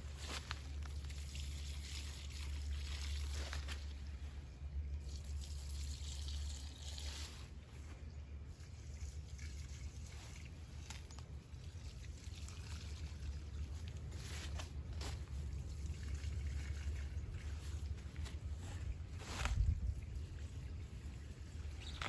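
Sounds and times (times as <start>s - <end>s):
liquid pouring onto soil: 0.0s - 22.0s.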